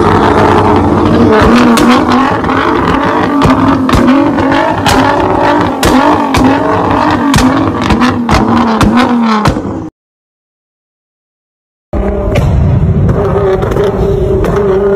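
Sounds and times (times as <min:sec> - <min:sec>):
car engine revving: 0:00.0 - 0:09.9, 0:12.0 - 0:14.9
exhaust pops and bangs: 0:00.2 - 0:09.8, 0:12.1 - 0:14.9.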